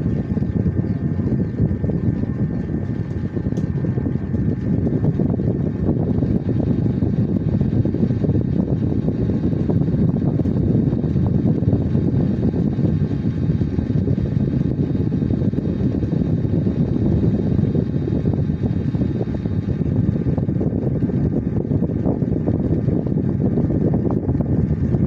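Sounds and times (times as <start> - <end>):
low-pitched rumbling: 0.0 - 25.0.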